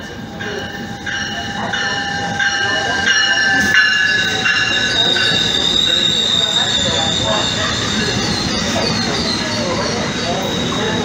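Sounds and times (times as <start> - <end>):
high metallic wheel squeal: 0.0 - 11.0
train coaches rolling past: 0.0 - 11.0.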